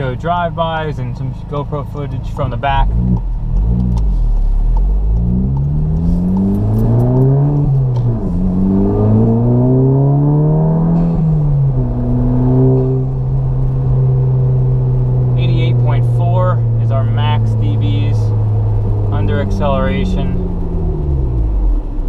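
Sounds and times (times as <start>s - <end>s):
car exhaust under hard acceleration: 0.0s - 22.0s.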